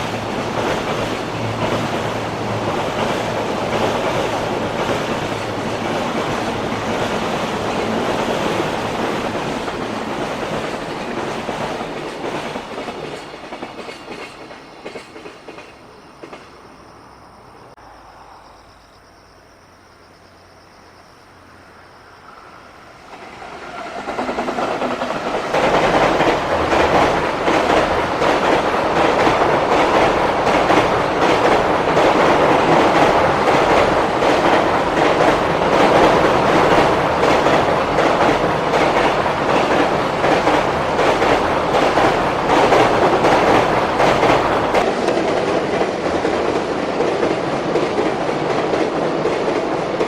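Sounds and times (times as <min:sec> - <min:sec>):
freight train rumbling past: 0:00.0 - 0:18.9, 0:21.0 - 0:50.0.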